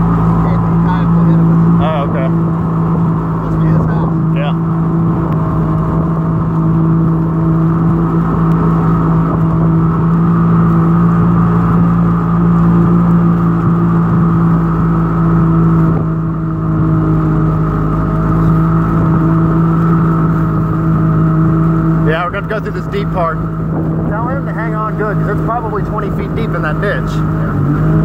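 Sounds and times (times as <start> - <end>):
motor engine running: 0.0 - 28.0.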